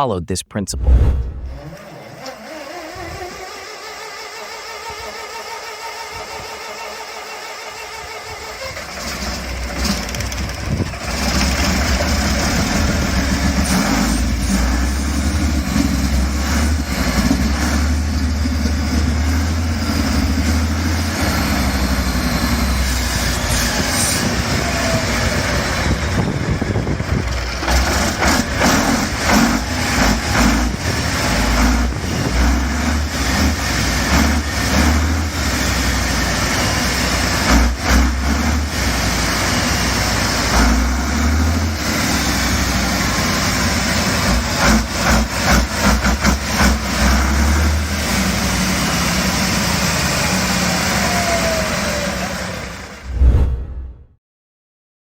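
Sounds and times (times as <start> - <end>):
diesel engine starting and running: 0.0 - 53.8.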